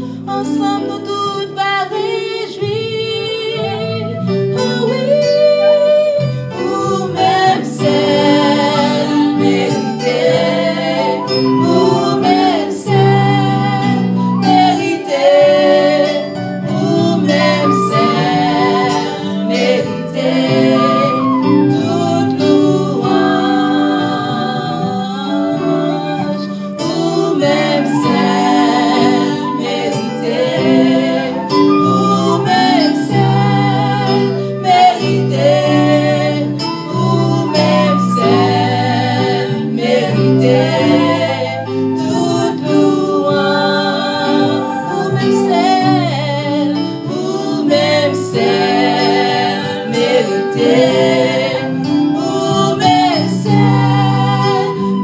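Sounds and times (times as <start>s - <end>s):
women singing worship song: 0.0s - 55.0s
instrumental held chords: 3.7s - 55.0s.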